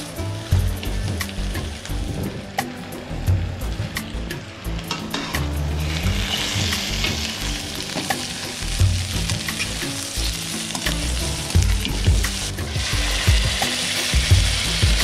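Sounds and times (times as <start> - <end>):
food sizzling in a metal pan: 0.0 - 15.0.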